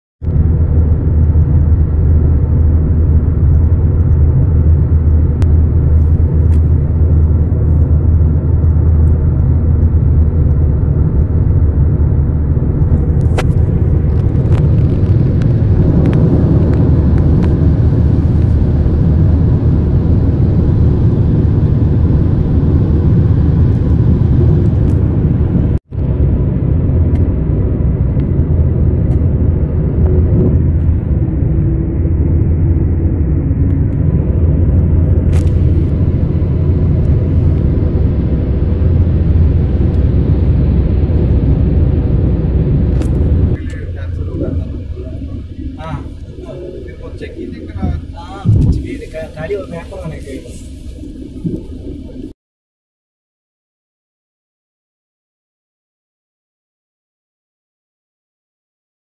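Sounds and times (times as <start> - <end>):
car cabin road rumble: 0.2 - 52.4.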